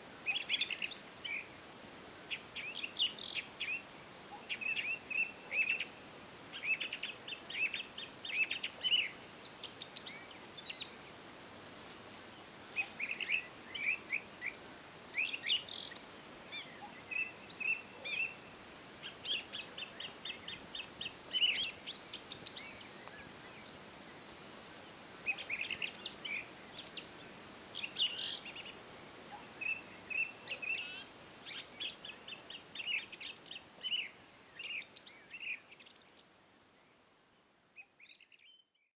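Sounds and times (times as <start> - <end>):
faint steady hiss: 0.0 - 38.9
songbirds chirping and trilling: 0.2 - 11.4, 12.1 - 38.8.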